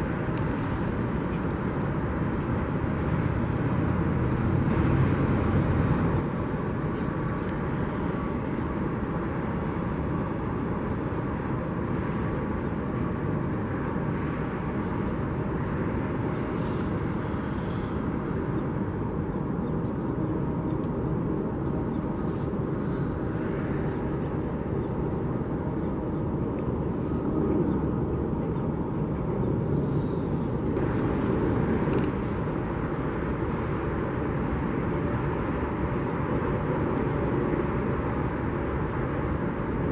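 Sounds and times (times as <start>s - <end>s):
distant jet engines rumbling: 0.0s - 39.9s.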